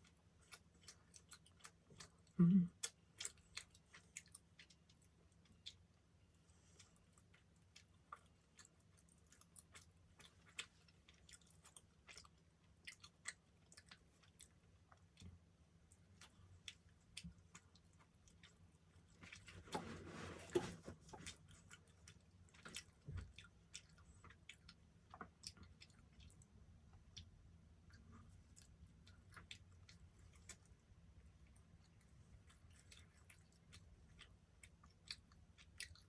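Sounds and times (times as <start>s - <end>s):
mouth chewing soft pastry: 0.0s - 36.0s.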